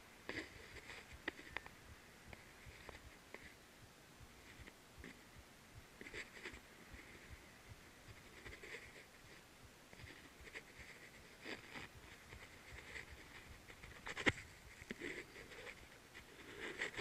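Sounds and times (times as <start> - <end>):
muffled rustles and clicks: 0.0 - 3.6, 4.2 - 17.0.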